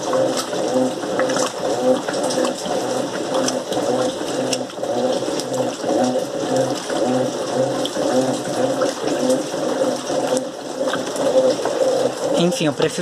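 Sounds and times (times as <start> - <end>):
washing machine motor hum pulsing: 0.0 - 13.0
water sloshing in tub: 0.0 - 13.0.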